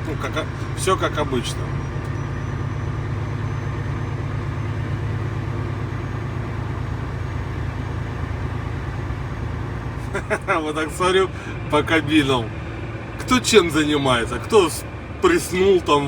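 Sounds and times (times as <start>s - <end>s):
diesel truck engine drone: 0.0s - 16.0s.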